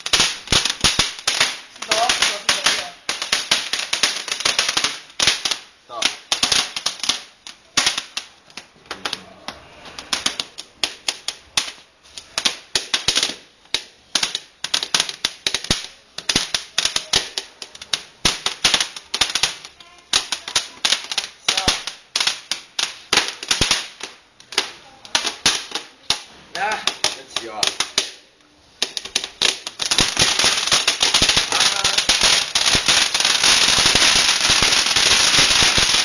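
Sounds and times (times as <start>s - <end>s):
firecrackers cracking: 0.0s - 36.0s.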